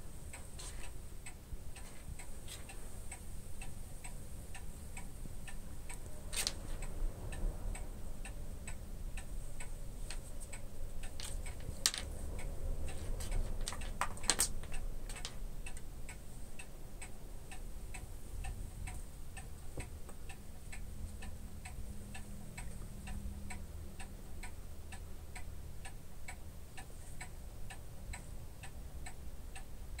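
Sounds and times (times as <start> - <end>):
clock ticking: 0.0 - 30.0.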